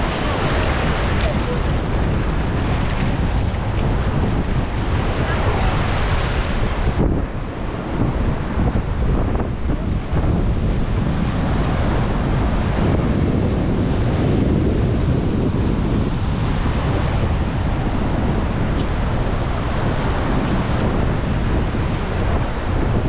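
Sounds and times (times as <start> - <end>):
ocean surf on beach: 0.0 - 23.0
wind buffeting microphone: 0.0 - 23.0.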